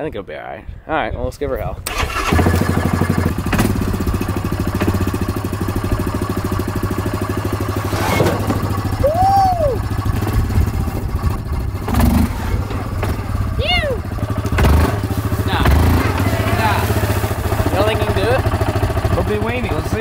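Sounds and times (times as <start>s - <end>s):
quad engine running at low revs: 2.3s - 20.0s.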